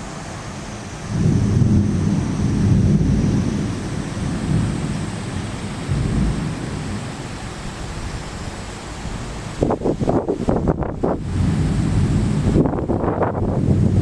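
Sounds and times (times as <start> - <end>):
torrential rain pouring: 0.0 - 14.0.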